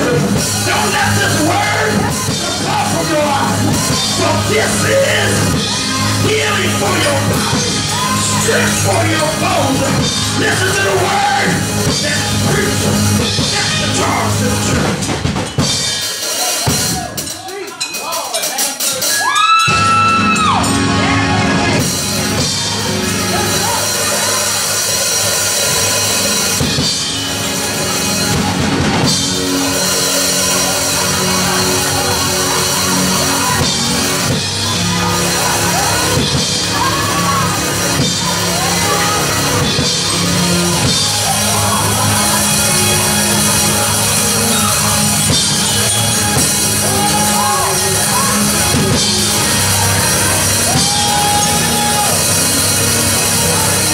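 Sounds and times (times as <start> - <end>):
drum kit: 0.0 - 53.9
keyboard playing: 0.0 - 53.9.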